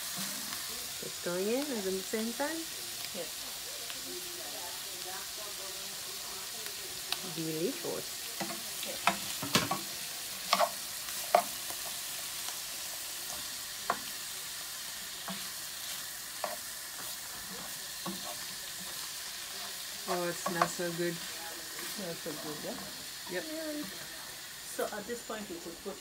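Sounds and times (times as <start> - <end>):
vegetables sizzling in a frying pan: 0.0 - 26.0.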